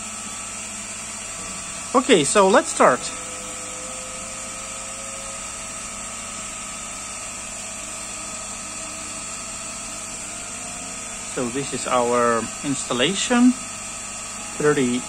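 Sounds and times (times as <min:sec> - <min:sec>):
laser engraver mechanical hum: 0:00.0 - 0:15.0.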